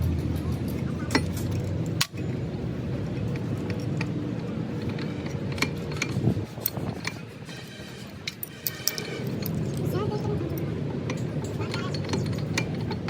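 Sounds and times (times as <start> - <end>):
metal tools clinking: 0.0 - 13.0.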